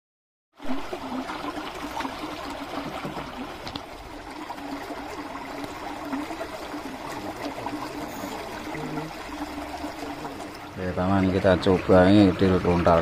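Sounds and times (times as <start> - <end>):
running trickling water: 0.6 - 13.0.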